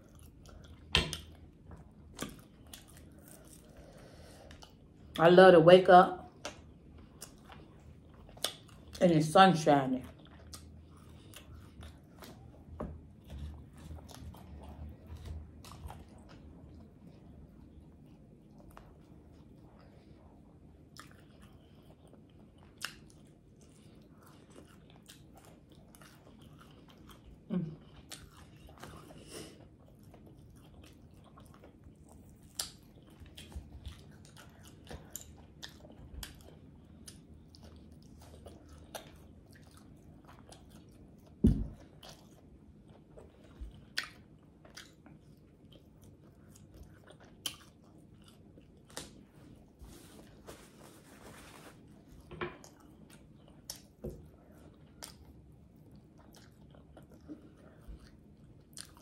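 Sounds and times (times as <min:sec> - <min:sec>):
biting and chewing fried food: 0:00.0 - 0:05.2, 0:10.0 - 0:50.4, 0:51.7 - 0:59.0.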